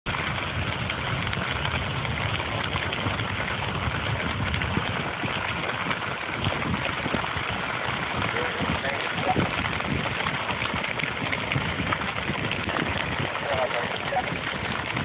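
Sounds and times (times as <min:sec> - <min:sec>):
grass fire crackling: 0:00.1 - 0:15.0.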